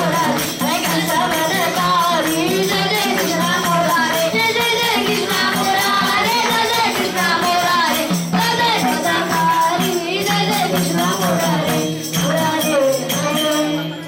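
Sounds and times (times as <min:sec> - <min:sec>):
children singing devotional song: 0:00.0 - 0:14.0
jingling percussion: 0:00.0 - 0:14.0.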